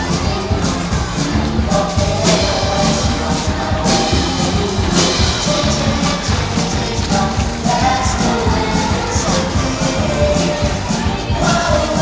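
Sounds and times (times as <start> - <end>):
upbeat music with drum beat: 0.0 - 12.0.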